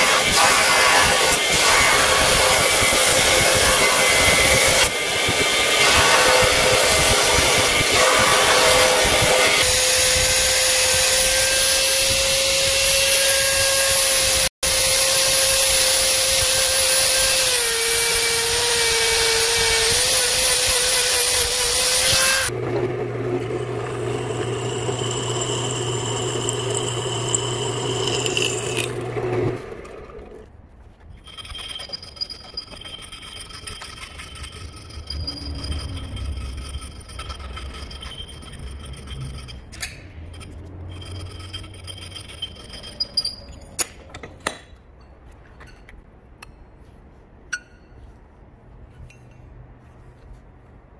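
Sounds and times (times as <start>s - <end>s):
rotary tool grinding metal: 0.0s - 22.6s, 23.5s - 30.3s, 31.2s - 43.7s.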